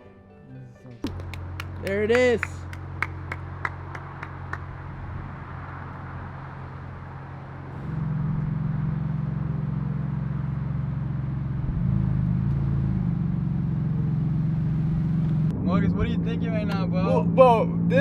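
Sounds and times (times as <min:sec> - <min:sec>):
car engine accelerating: 0:01.0 - 0:18.0.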